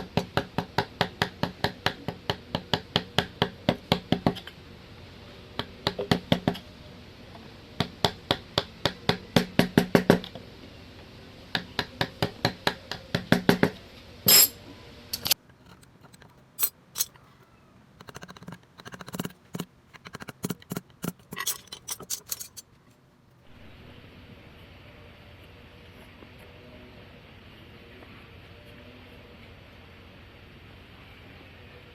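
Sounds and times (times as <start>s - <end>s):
steady background hum: 0.0s - 31.9s.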